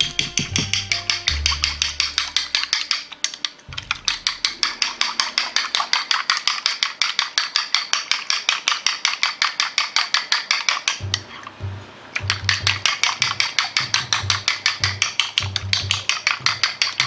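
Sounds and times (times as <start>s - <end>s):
chopsticks clicking against bowl: 0.0s - 11.5s, 12.2s - 17.0s.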